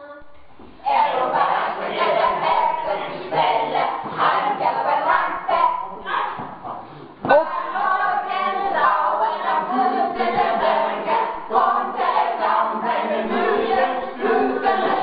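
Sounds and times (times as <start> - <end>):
group singing and calling out: 0.0 - 15.0.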